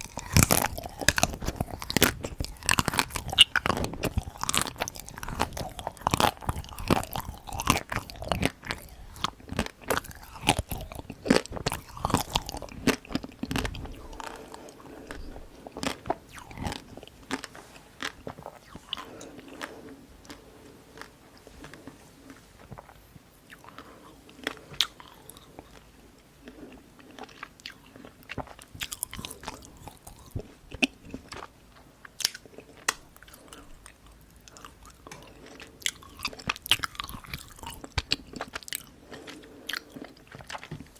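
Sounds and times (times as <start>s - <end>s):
crunching and chewing: 0.0s - 40.9s.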